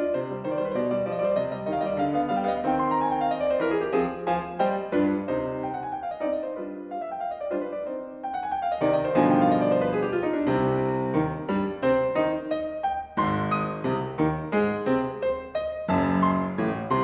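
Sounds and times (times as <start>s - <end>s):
classical piano passage: 0.0s - 17.0s.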